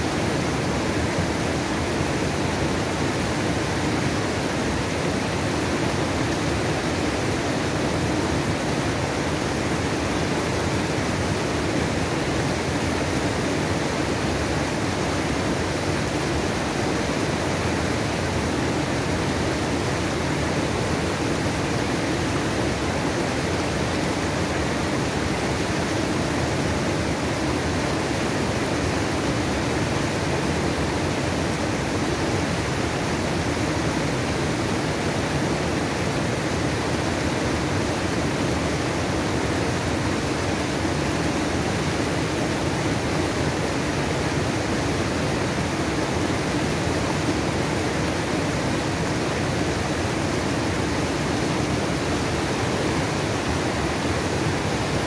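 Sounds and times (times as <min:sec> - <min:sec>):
small waterfall: 0:00.0 - 0:55.0
stream rushing over rocks: 0:00.0 - 0:55.0.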